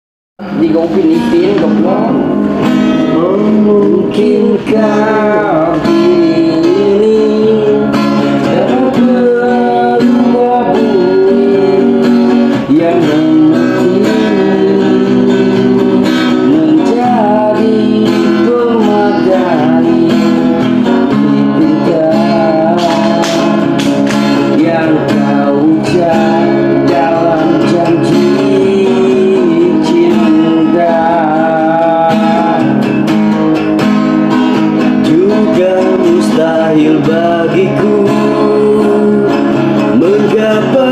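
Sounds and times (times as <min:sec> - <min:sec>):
person singing: 0:00.4 - 0:33.1, 0:34.8 - 0:40.9
acoustic guitar strumming: 0:00.4 - 0:40.9.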